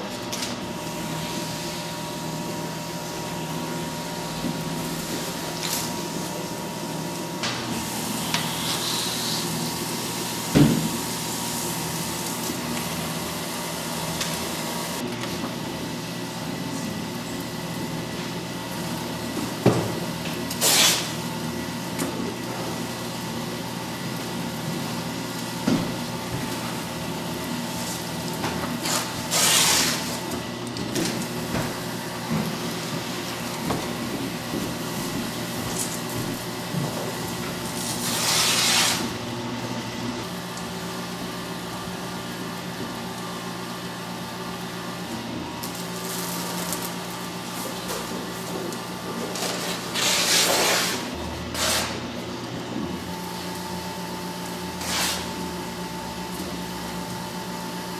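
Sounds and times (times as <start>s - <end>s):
paper shredder motor hum: 0.0s - 57.9s.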